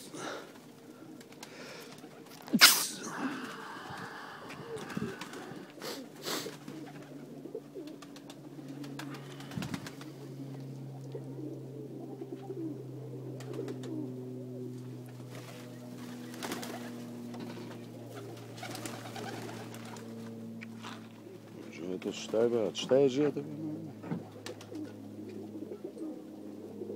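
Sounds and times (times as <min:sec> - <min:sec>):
pigeons cooing: 0:00.0 - 0:26.9.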